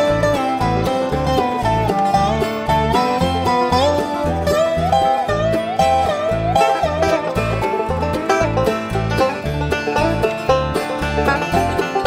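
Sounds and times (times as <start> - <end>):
country music with strings and bass: 0.0 - 12.0.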